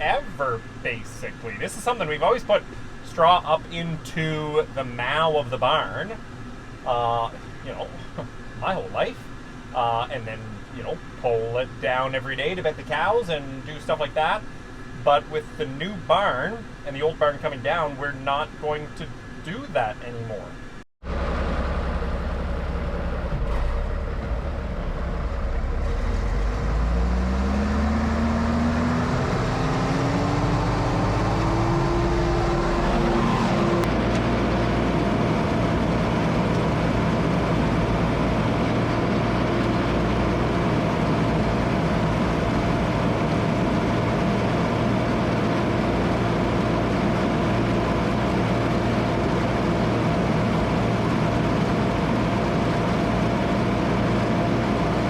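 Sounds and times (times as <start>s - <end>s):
straw chopper whine: 0.0s - 55.0s
tractor engine droning: 0.0s - 55.0s.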